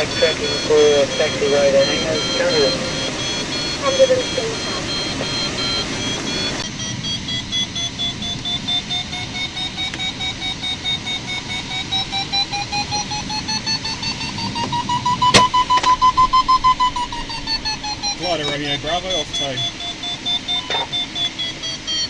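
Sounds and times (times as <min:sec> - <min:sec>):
steady rushing background: 0:00.0 - 0:22.0
variometer beeping: 0:00.0 - 0:22.0.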